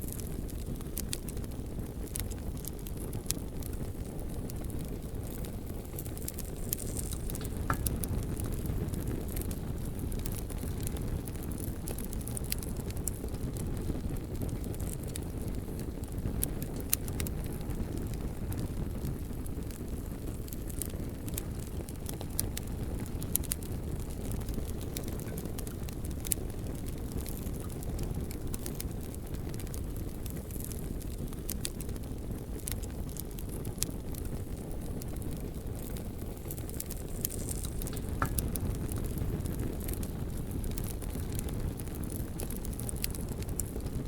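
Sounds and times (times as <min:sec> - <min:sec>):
bonfire rumbling: 0:00.0 - 0:44.0
logs crackling and popping: 0:00.0 - 0:44.0.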